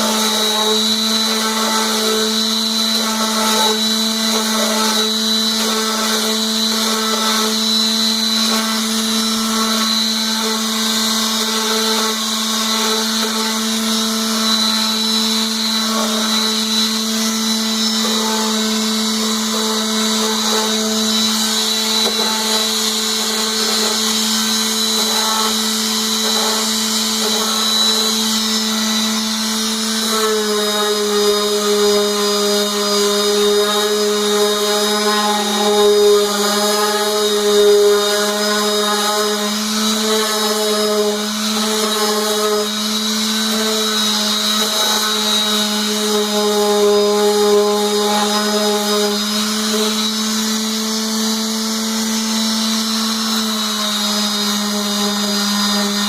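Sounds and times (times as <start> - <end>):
electric motors whining: 0.0 - 52.2.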